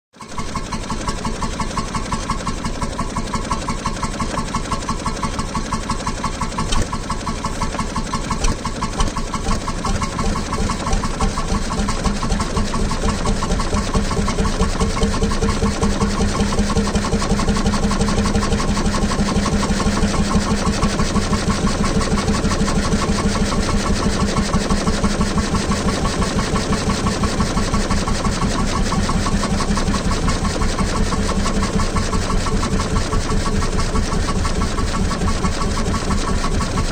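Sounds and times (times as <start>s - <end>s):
stationary engine running: 0.2s - 36.9s.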